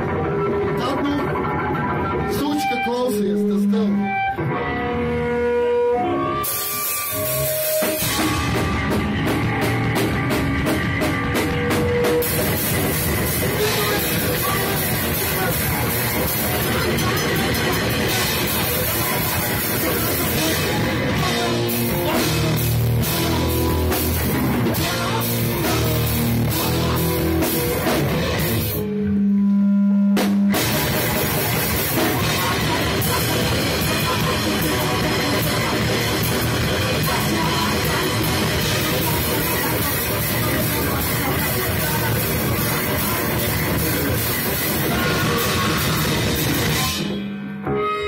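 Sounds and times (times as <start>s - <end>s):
live rock band playing: 0.0s - 29.0s, 30.2s - 48.0s.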